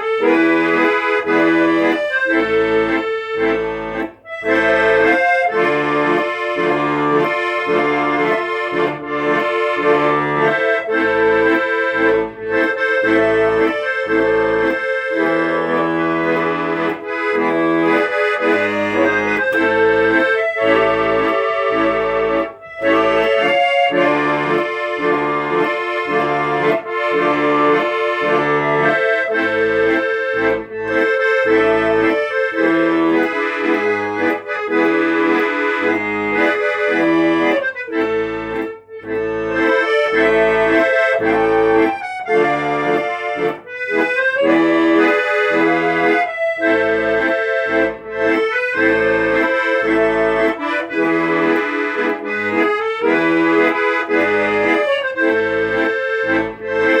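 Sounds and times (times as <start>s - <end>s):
instrumental music: 0.0s - 57.0s.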